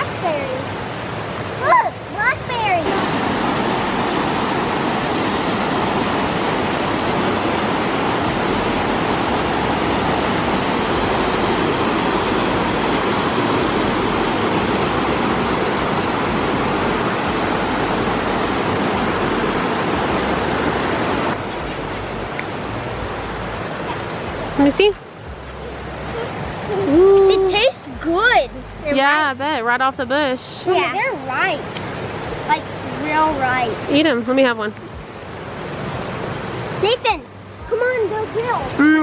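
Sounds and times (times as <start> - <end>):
creek water rushing over rocks: 0.0 - 39.0.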